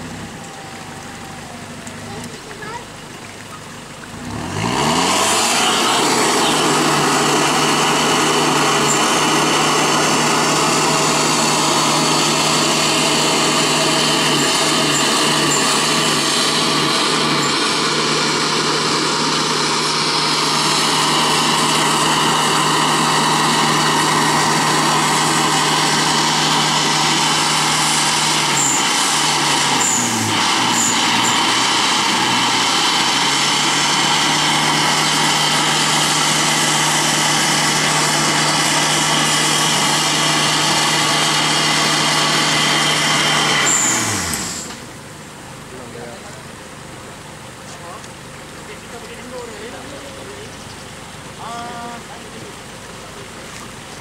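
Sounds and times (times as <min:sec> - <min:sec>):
pickup engine at high revs: 0:03.7 - 0:54.0.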